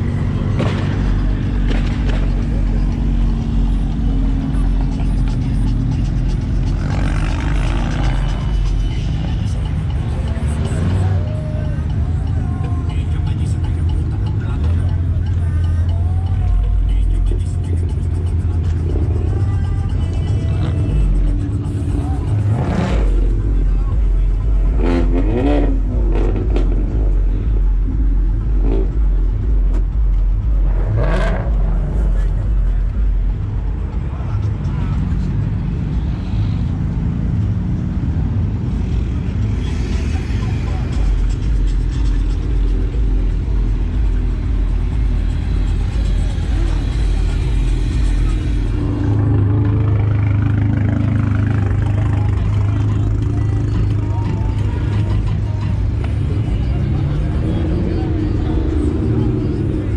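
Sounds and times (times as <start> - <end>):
people talking: 0.0 - 36.7, 38.3 - 59.9
car engines idling: 0.0 - 59.9.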